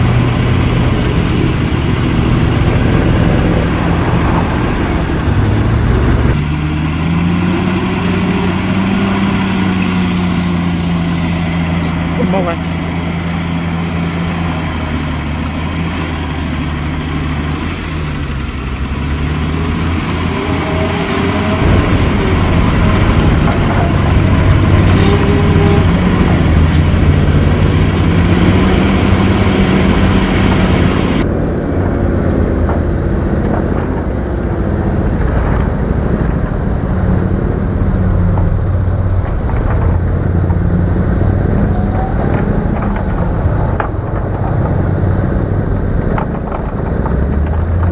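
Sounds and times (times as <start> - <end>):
heavy diesel engine under load: 0.0 - 47.9.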